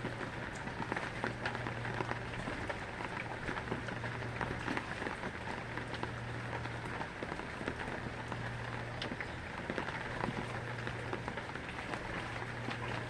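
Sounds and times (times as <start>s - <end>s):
rain falling on hard surface: 0.0s - 13.0s.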